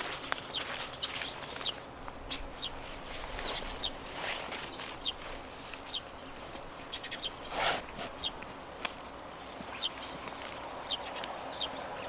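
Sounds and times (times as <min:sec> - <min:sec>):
bird chirping: 0:00.3 - 0:12.0.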